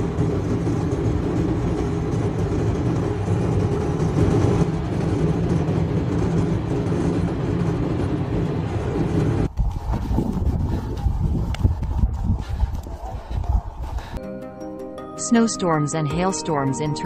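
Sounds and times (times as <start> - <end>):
vehicle engine and road noise: 0.0 - 14.2.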